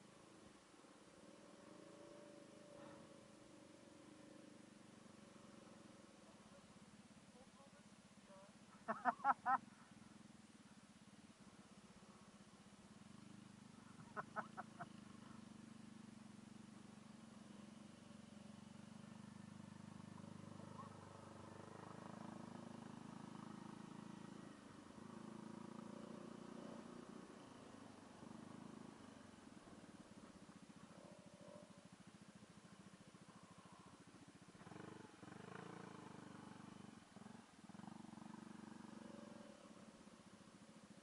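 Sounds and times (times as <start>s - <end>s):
scooter engine humming: 0.0s - 41.0s.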